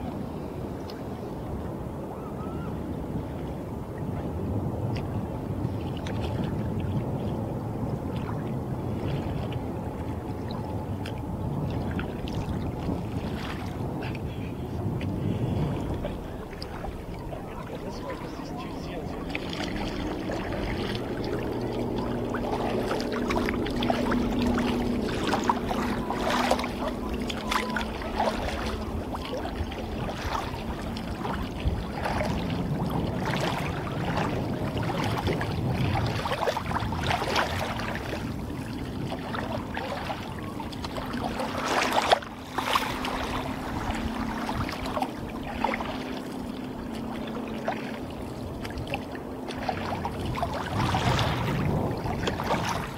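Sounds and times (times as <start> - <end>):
water splashing against kayak hull: 2.5 - 52.9.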